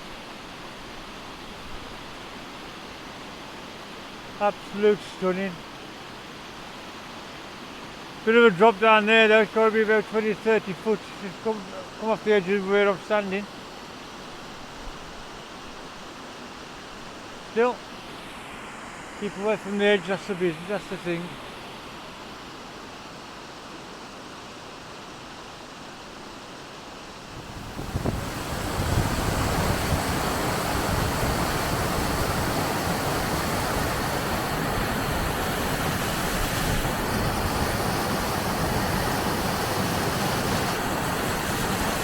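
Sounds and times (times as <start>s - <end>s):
waterfall rushing: 0.1s - 42.0s.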